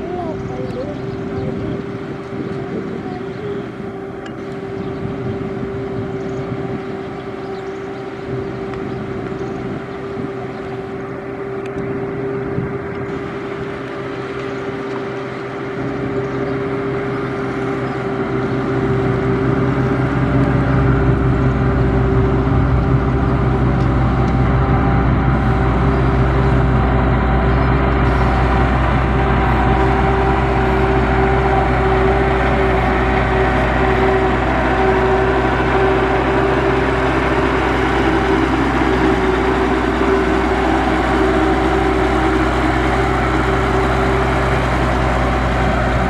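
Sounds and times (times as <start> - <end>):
deep engine rumble: 0.0 - 46.0
diesel engine running: 0.0 - 46.0.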